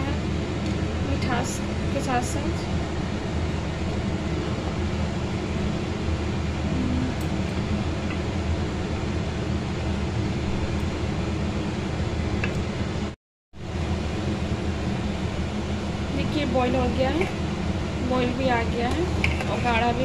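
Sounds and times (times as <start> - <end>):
rushing kitchen background noise: 0.0 - 20.0.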